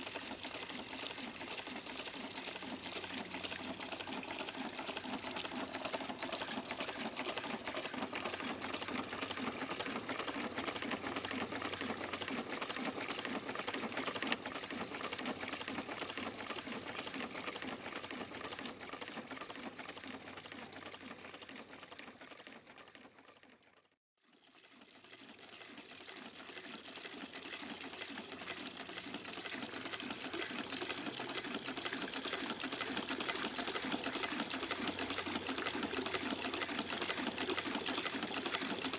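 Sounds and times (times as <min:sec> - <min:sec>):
water splashing: 0:00.0 - 0:20.5, 0:24.3 - 0:38.9.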